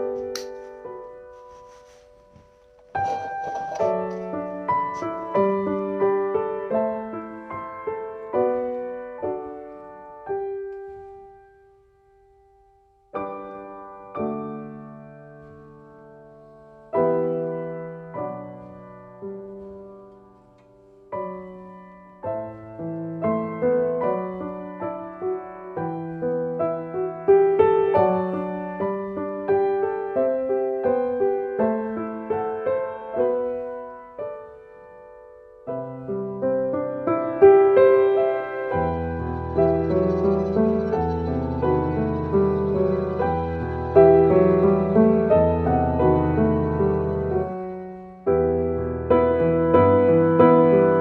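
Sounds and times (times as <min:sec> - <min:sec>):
gentle solo piano: 0:00.0 - 0:51.0.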